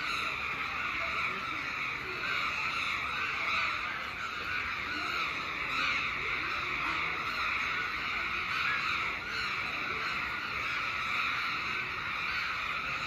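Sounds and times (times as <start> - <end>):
flock of crows cawing: 0.0 - 13.0.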